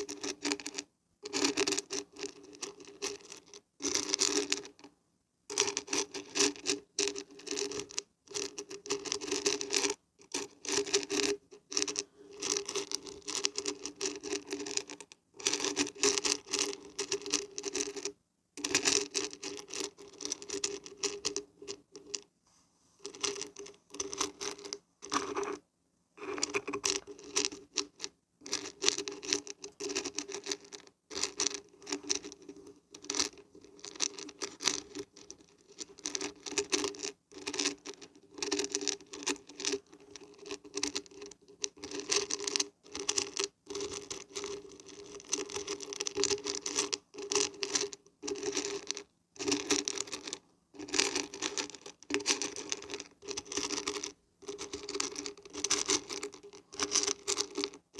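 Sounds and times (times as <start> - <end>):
beans rattling when shaken: 0.0 - 4.8, 5.6 - 22.2, 23.0 - 25.6, 26.2 - 57.9.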